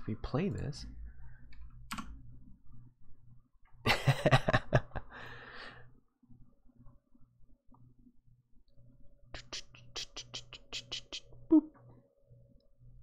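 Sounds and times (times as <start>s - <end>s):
faint steady low hum: 0.0s - 13.0s.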